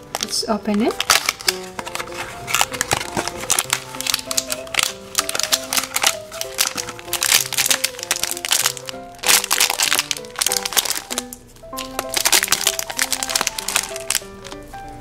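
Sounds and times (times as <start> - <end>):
plastic bag crinkling: 0.0 - 14.8
bouncy background music: 0.0 - 15.0.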